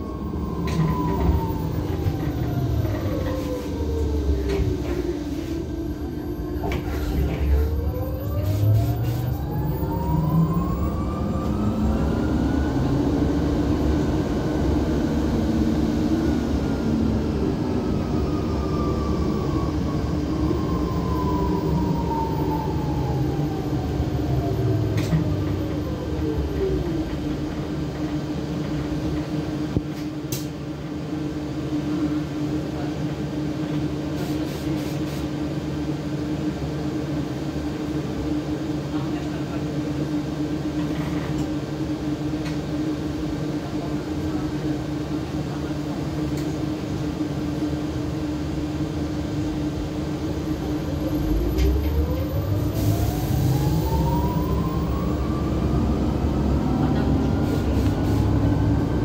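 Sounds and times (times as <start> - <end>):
low hum and road rumble: 0.0 - 31.1, 40.6 - 59.0
electric bus motor whine: 0.0 - 31.9, 40.4 - 59.0.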